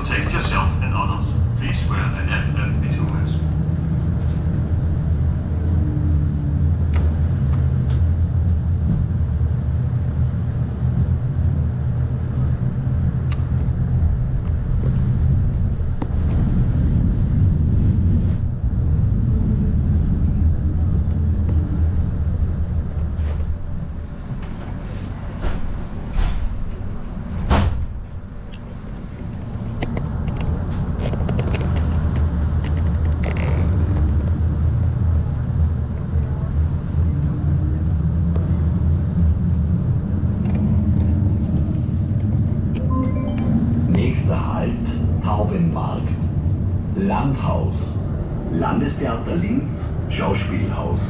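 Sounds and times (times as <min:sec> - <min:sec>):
tram rumble and hum: 0:00.0 - 0:51.0.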